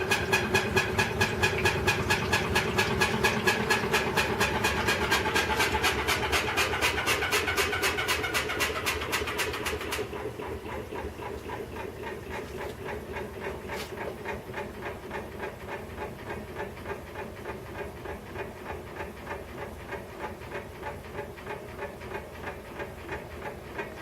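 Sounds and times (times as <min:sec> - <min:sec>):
washing machine rhythmic beating: 0:00.0 - 0:24.0
washing machine rumble and hum: 0:00.0 - 0:24.0.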